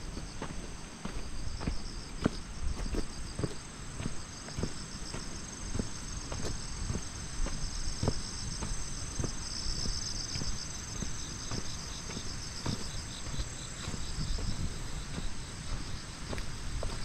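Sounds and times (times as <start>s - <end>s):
footsteps on wet pavement: 0.0s - 17.0s
insects trilling: 0.0s - 17.0s.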